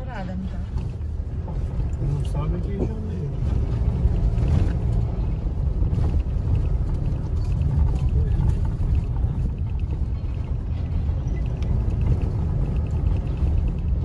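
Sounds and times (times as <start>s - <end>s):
car driving on dirt road: 0.0s - 14.0s.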